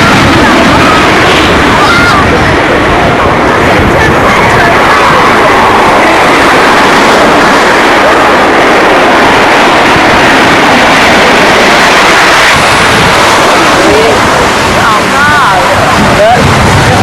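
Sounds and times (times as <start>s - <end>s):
fighter jet flying past: 0.0s - 17.0s.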